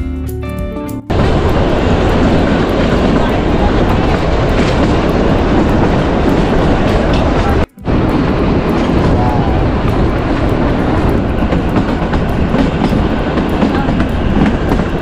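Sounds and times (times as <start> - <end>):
guitar music: 0.0 - 15.0
rushing air: 1.1 - 15.0
train rumbling: 1.1 - 15.0.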